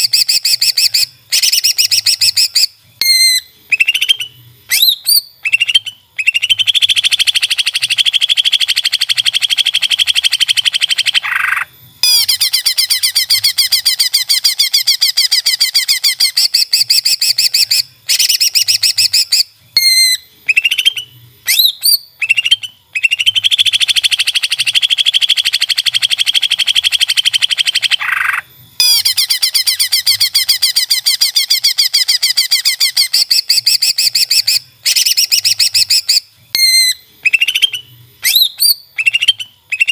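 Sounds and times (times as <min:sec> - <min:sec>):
bird rapid trilling song: 0:00.0 - 0:39.9.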